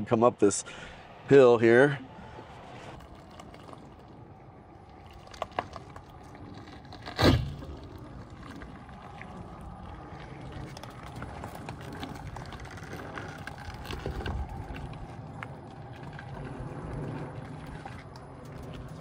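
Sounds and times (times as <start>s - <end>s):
low rumble: 0.0s - 19.0s
tyres crunching over gravel: 0.0s - 19.0s.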